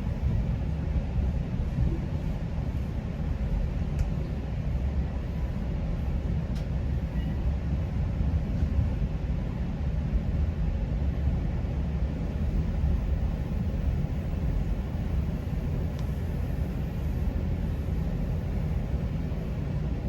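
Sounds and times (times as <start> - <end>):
train rumbling on track: 0.0 - 20.0.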